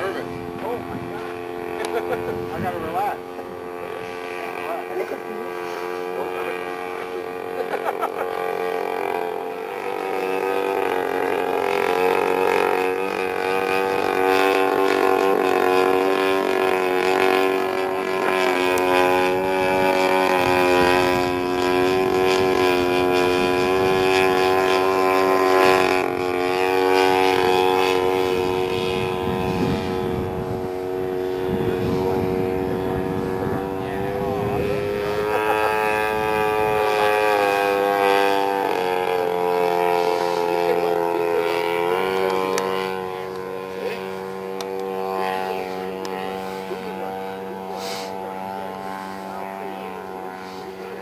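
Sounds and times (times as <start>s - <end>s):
model airplane engine running: 0.0s - 51.0s.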